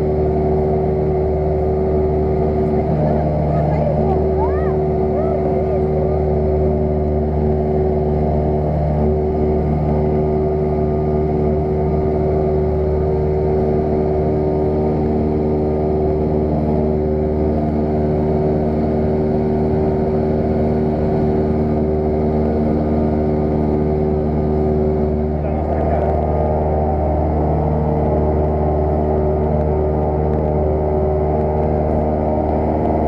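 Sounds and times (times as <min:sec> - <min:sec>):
aircraft propeller engine drone: 0:00.0 - 0:33.0.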